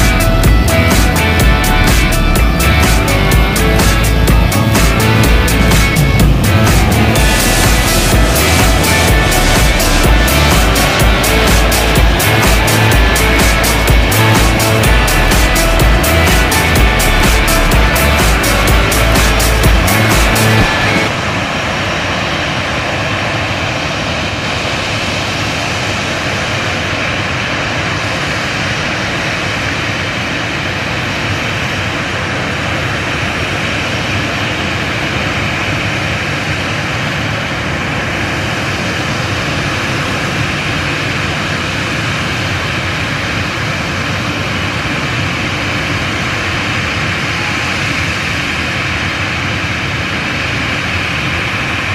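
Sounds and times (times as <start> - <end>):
faint high whine: 0.0 - 51.9
jet engines idling: 0.0 - 51.9.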